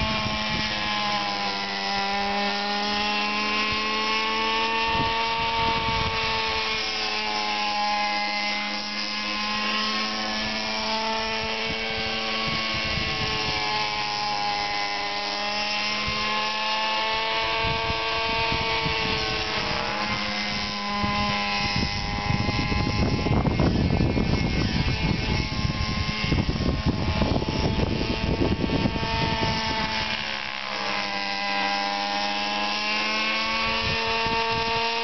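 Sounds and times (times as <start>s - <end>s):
model helicopter engine buzz: 0.0s - 35.0s.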